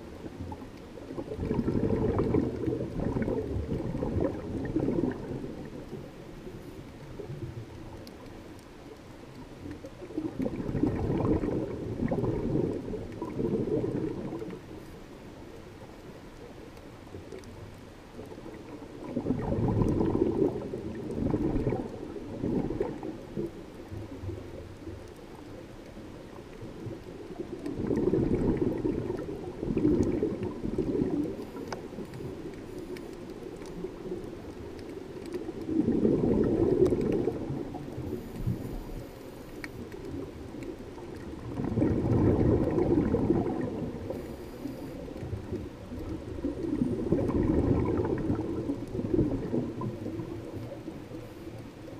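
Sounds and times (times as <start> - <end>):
low water hiss: 0.0 - 51.9
underwater exhaust bubbles: 0.0 - 51.9.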